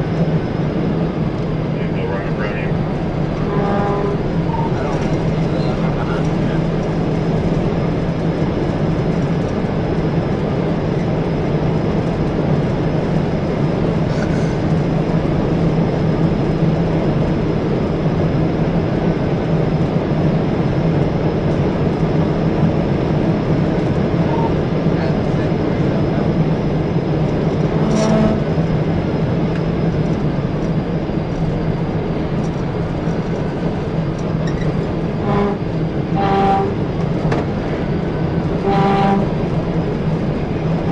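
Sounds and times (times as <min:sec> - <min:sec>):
car interior drone: 0:00.0 - 0:40.9.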